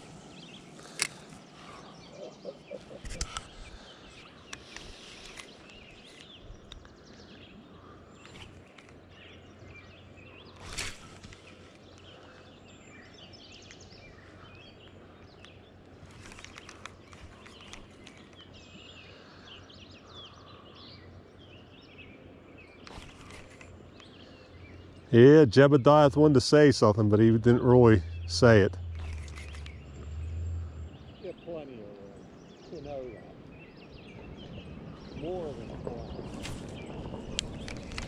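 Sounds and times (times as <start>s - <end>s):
outdoor background hiss: 0.0s - 35.5s
birds chirping and singing: 0.0s - 38.0s.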